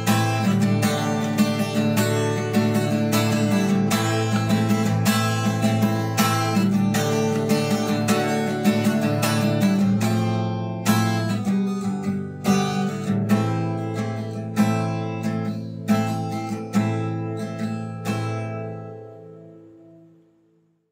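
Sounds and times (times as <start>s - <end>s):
acoustic guitar playing: 0.0s - 20.9s.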